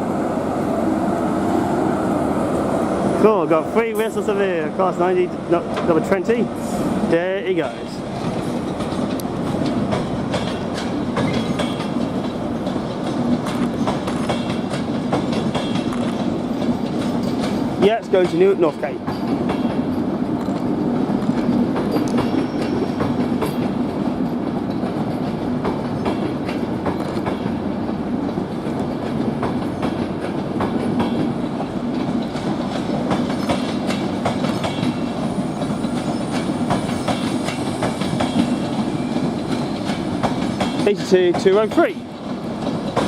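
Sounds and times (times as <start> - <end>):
train running noise: 0.0 - 43.0
train wheels clicking over rail joints: 2.5 - 43.0.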